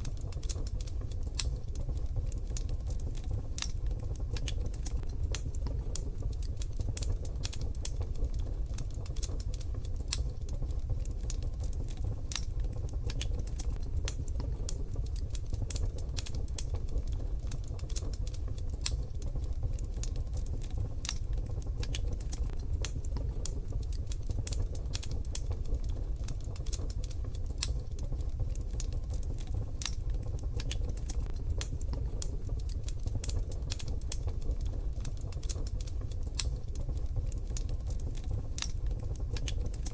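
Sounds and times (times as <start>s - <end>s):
low steady rumble: 0.0s - 39.9s
wood fire popping and snapping: 0.0s - 39.9s.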